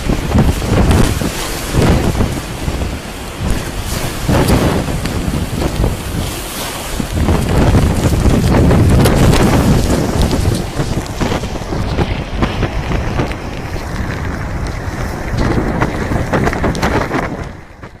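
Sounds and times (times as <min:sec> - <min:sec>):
storm surf: 0:00.0 - 0:18.0
wind buffeting microphone: 0:00.0 - 0:18.0.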